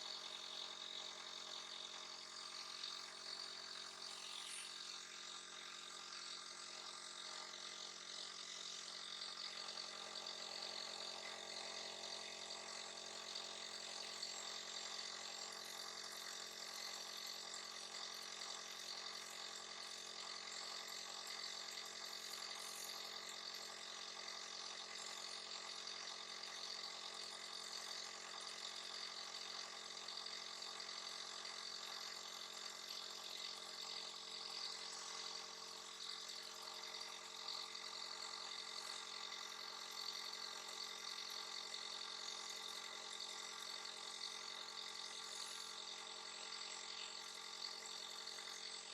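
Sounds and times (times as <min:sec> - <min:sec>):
small motor humming: 0:00.0 - 0:48.9.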